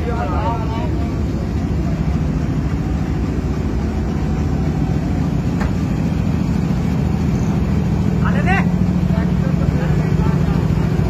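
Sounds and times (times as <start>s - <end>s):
large engine idling: 0.0s - 11.0s.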